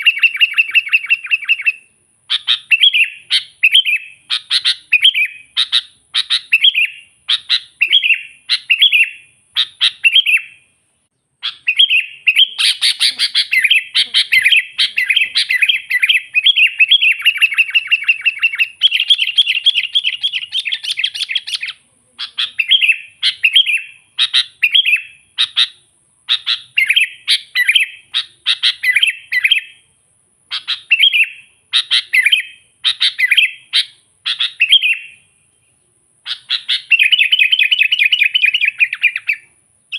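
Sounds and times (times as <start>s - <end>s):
bulbul singing whistled phrases: 0.0s - 39.9s.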